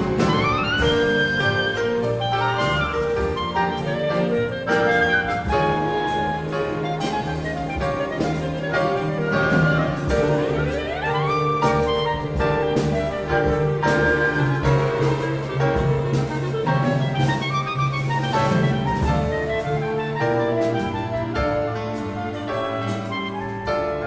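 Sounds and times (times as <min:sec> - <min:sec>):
full orchestra: 0:00.0 - 0:24.0
solo clarinet fast runs: 0:00.0 - 0:24.0
steady percussion beat: 0:00.0 - 0:24.0.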